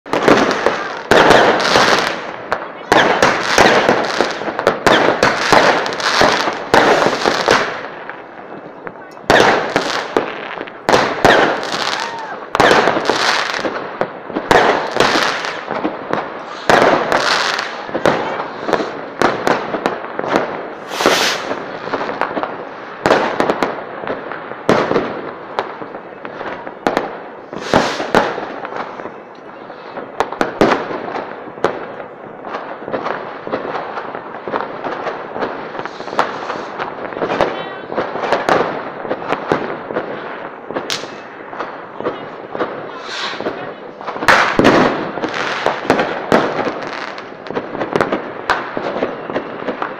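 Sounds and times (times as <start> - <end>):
fireworks bangs and crackling: 0.0 - 49.9.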